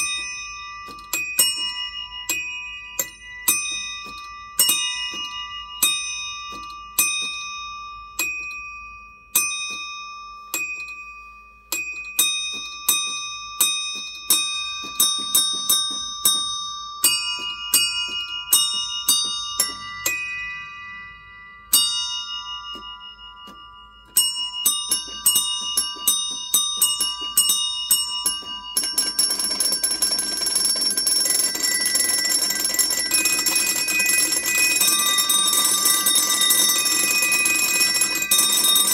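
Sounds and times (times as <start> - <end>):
small metal bells struck: 0.0 - 38.9.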